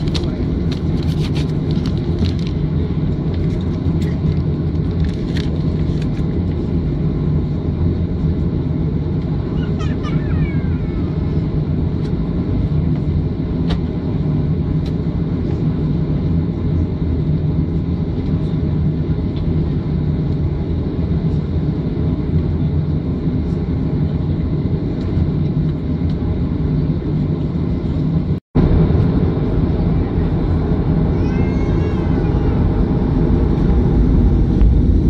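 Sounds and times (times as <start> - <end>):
jet engines rumbling in cabin: 0.0 - 35.0.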